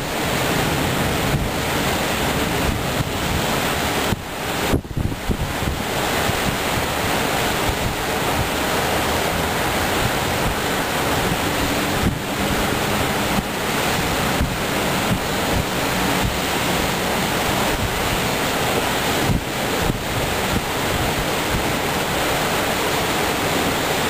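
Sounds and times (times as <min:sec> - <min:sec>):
heavy rain pouring: 0:00.0 - 0:24.0
wind buffeting microphone: 0:00.0 - 0:24.0.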